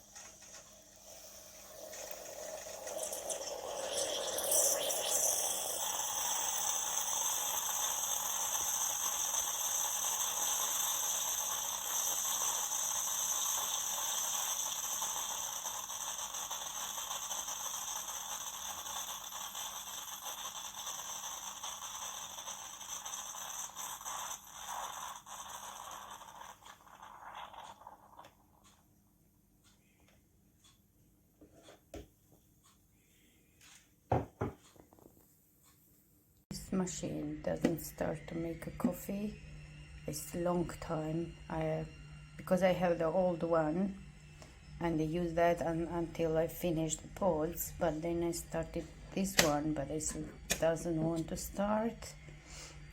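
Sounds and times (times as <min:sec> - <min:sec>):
coffee machine pump hissing: 0:00.0 - 0:28.4, 0:37.1 - 0:52.9.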